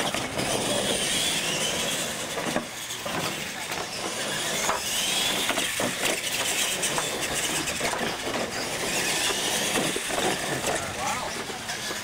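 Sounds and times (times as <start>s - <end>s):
toy truck motor whining: 0.0s - 12.0s
tyre noise on asphalt: 0.0s - 12.0s.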